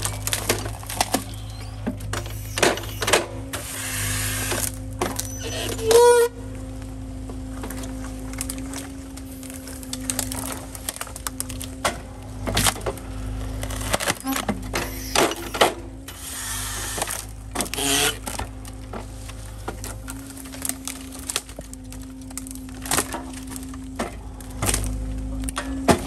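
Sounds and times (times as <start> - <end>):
excavator hydraulics droning: 0.0 - 26.0
wood cracking and splintering: 0.0 - 26.0.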